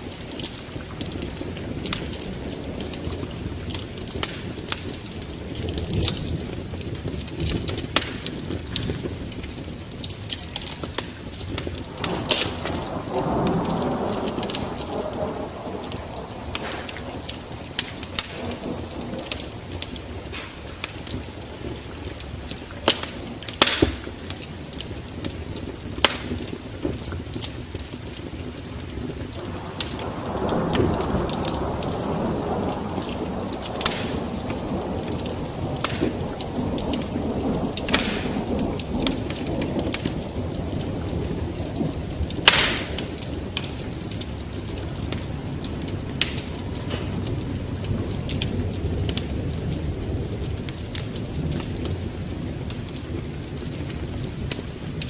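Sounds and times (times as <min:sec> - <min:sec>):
fire rushing: 0:00.0 - 0:55.0
wood fire crackling and popping: 0:00.0 - 0:55.0.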